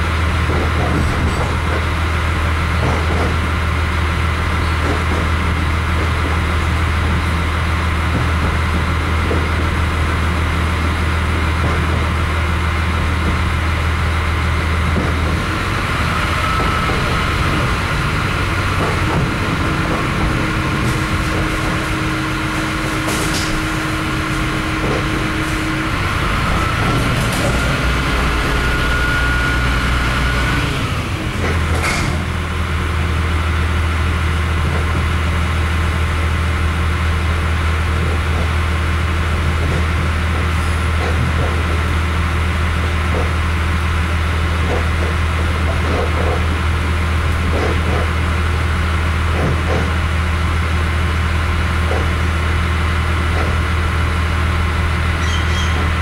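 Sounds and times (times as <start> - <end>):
diesel engine drone: 0.0 - 56.0
wheel and rail noise: 0.0 - 56.0.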